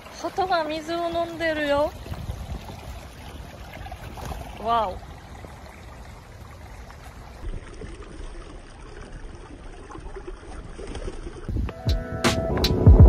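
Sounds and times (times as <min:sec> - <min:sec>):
stream trickling among rocks: 0:00.0 - 0:11.5.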